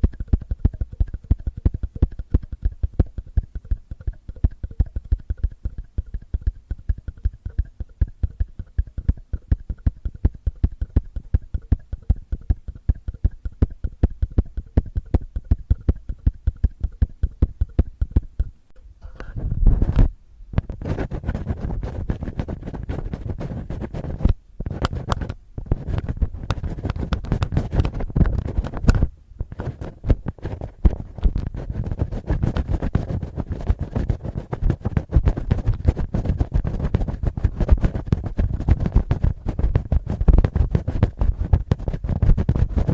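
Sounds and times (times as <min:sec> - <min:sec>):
fingers scratching on microphone: 0:00.0 - 0:42.9.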